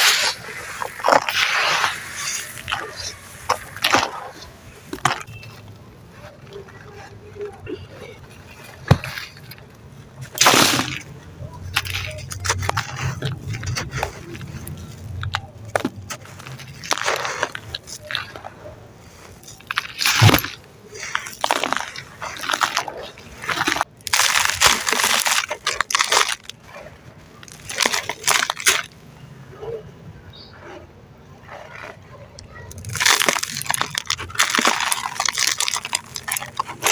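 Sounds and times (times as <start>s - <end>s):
cement chunks crunching by hand: 0.0s - 29.0s, 31.5s - 36.9s.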